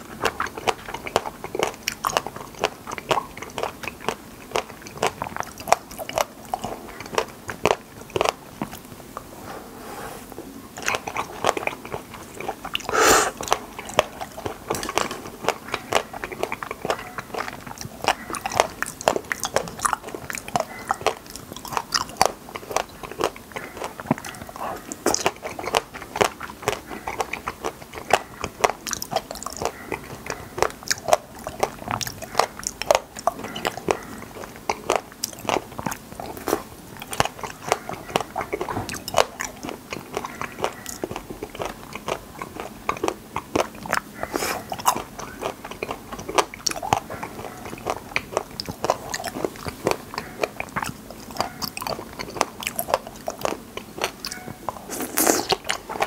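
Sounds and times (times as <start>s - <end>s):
crunching raspberries: 0.0s - 9.3s, 10.7s - 56.0s
wet chewing: 0.0s - 9.3s, 10.5s - 56.0s.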